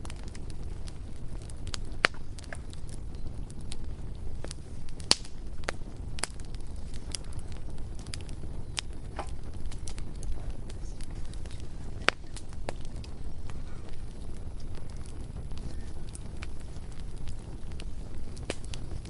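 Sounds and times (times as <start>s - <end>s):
bonfire rumbling: 0.0s - 19.0s
fire crackles and pops: 0.0s - 19.0s.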